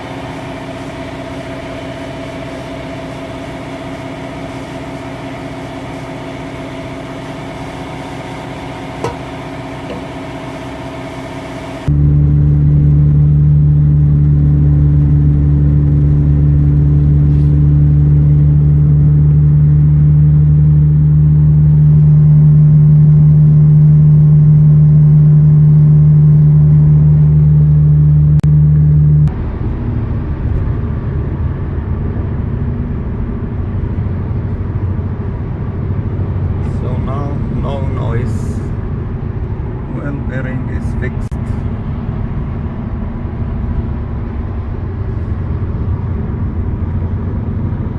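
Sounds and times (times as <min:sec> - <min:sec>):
road noise: 0:00.0 - 0:47.9
wheel bearing hum: 0:00.0 - 0:47.9.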